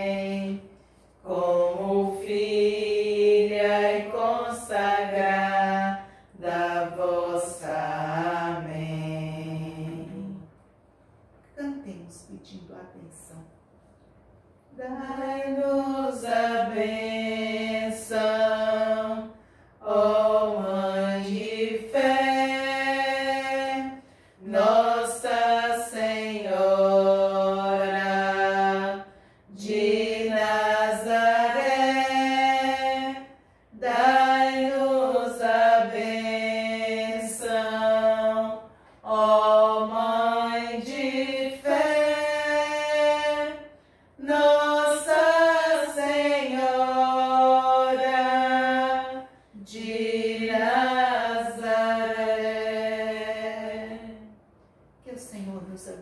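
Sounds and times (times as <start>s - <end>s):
women singing a hymn: 0.0s - 10.6s, 14.7s - 54.4s.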